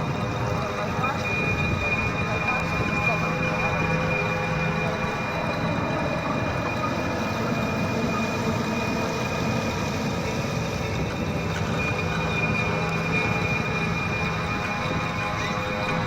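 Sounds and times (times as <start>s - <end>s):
strong wind gusts: 0.0s - 16.0s.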